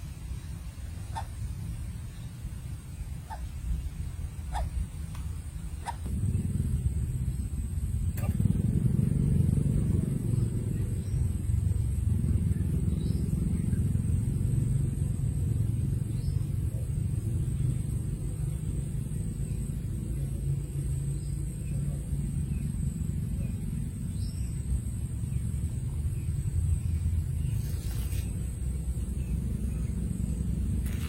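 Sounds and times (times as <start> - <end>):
low rumble: 0.0 - 31.0.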